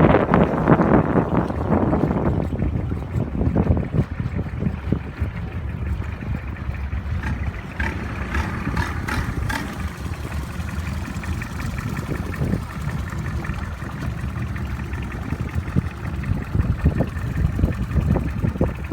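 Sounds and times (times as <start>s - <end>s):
boat engine idling: 0.0s - 18.9s
wind buffeting microphone: 0.0s - 18.9s.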